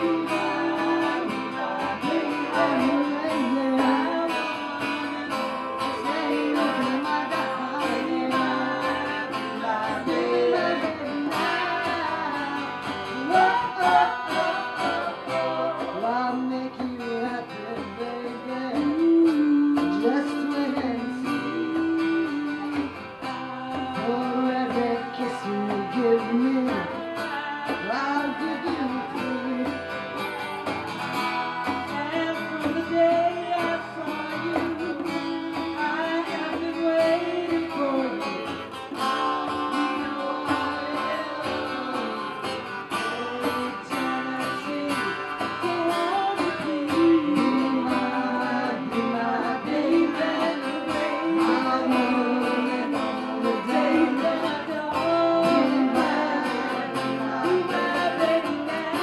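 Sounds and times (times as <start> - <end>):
guitar: 0.0 - 59.0
hand drum beat: 0.0 - 59.0
woman singing lead: 0.0 - 59.0.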